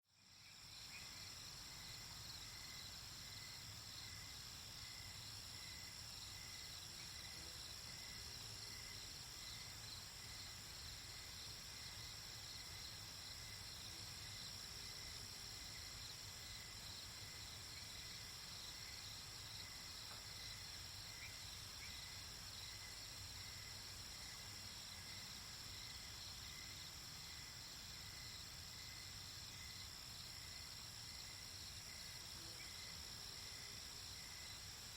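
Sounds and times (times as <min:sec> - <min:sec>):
faint pulsing insect trill: 0:00.0 - 0:34.9
crickets and insects chirping: 0:00.2 - 0:34.9.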